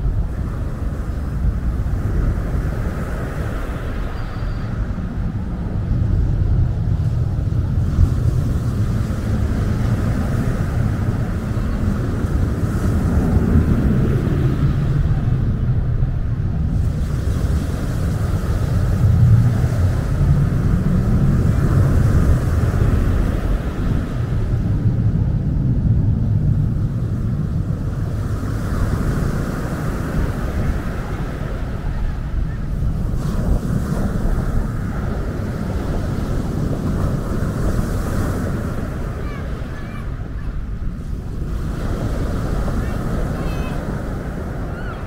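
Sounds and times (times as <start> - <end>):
steady deep rumble: 4.6 - 45.0.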